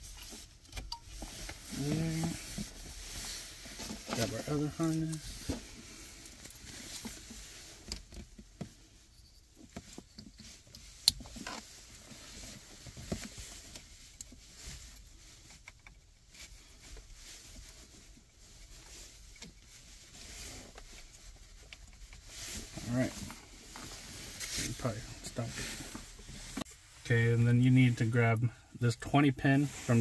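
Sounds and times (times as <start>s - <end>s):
wires rustling: 0.2s - 28.5s.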